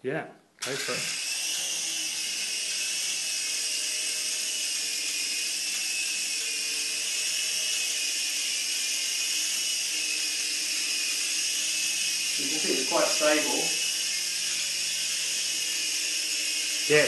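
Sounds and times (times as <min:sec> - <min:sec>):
toy helicopter rotors whining: 0:00.6 - 0:17.0.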